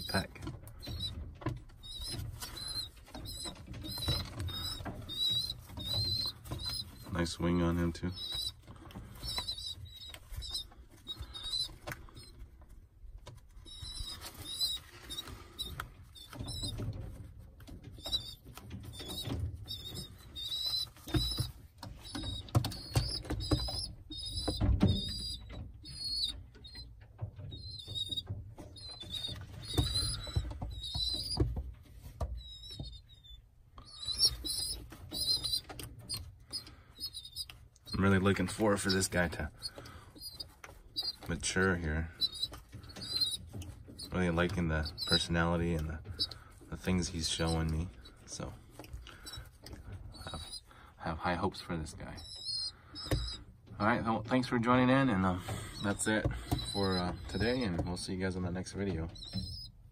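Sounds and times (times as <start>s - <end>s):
wings flapping and scuffling: 0.0s - 59.9s
young pigeon squeaking: 0.0s - 59.9s.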